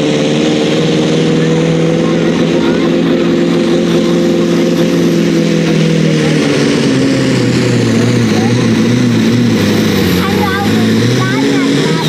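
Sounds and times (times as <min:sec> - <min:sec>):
tractor diesel engine at full throttle: 0:00.0 - 0:12.0.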